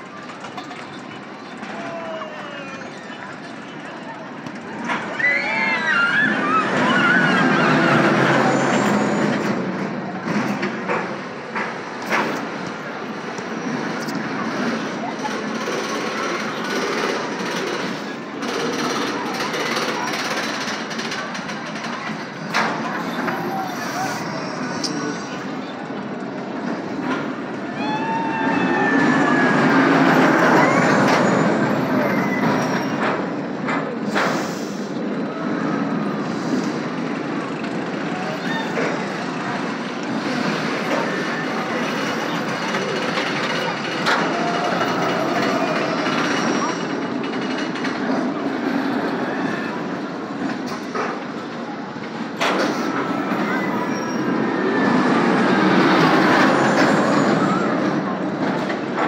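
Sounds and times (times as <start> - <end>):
roller coaster rolling rumble: 0.0 - 59.0.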